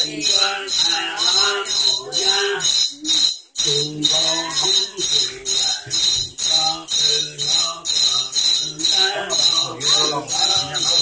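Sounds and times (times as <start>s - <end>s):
jingle rattle shaking: 0.0s - 11.0s
man chanting: 0.0s - 11.0s.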